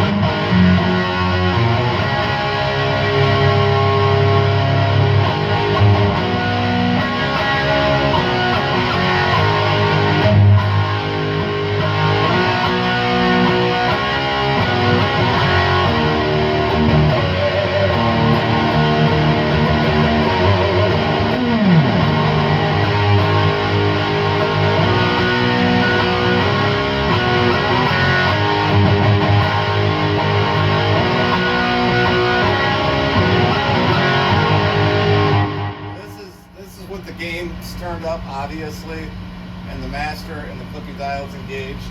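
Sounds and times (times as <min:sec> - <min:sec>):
distorted electric guitar: 0:00.0 - 0:40.0.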